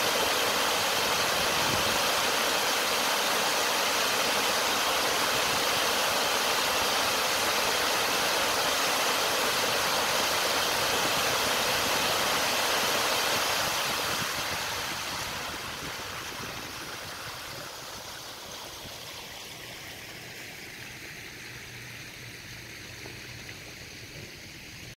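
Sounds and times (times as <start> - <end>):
water gushing from pipes: 0.0 - 24.9.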